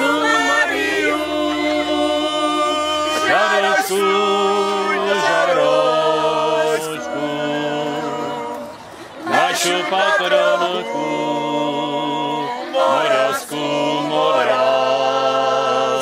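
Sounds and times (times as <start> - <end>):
women singing unaccompanied: 0.0 - 16.0.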